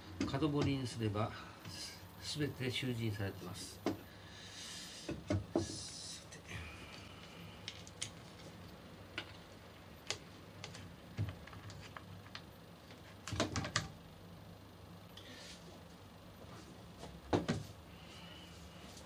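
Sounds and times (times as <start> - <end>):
faint steady low hum: 0.0 - 19.0.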